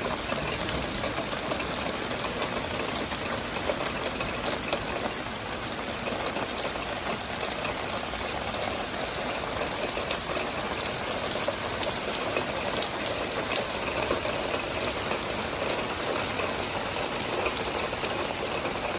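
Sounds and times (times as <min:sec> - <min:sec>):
hailstones clattering: 0:00.0 - 0:18.9
sharp hail clicks: 0:00.0 - 0:18.9.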